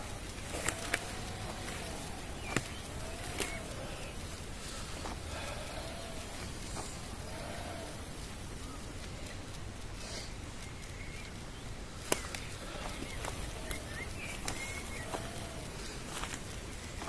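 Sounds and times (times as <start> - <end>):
bird calls: 0.0 - 17.0
sharp click: 0.0 - 17.0.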